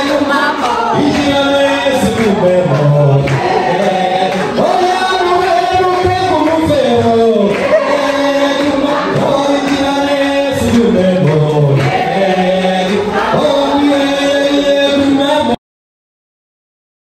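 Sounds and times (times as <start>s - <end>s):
choir singing long held notes: 0.0s - 6.4s, 7.4s - 15.2s.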